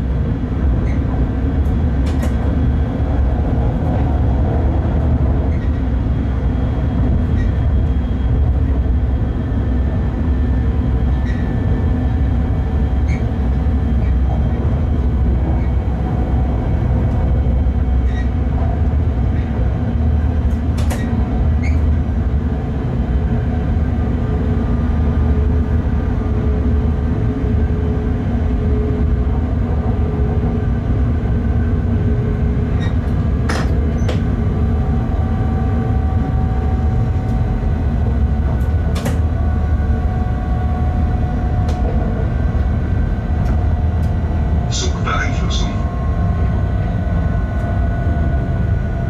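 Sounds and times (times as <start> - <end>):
train wheels rumbling: 0.0 - 49.0.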